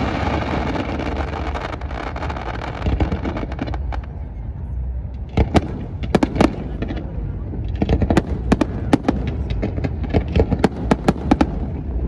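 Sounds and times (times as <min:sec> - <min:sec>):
fireworks bangs and pops: 0:00.0 - 0:04.2, 0:05.2 - 0:12.0.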